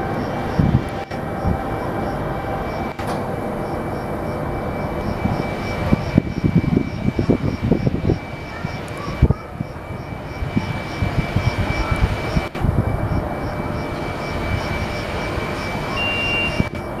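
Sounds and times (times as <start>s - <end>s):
electric locomotive whine: 0.0s - 17.0s
higher tone: 0.0s - 17.0s.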